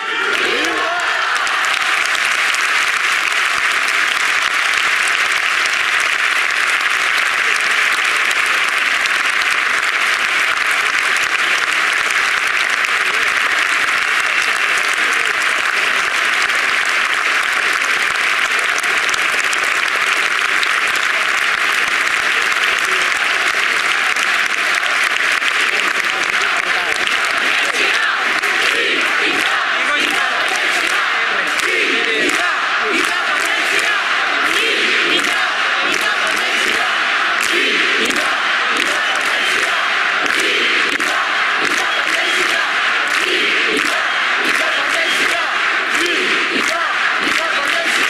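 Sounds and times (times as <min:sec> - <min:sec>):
crowd singing: 0:00.0 - 0:48.0
large crowd applauding: 0:00.0 - 0:48.0.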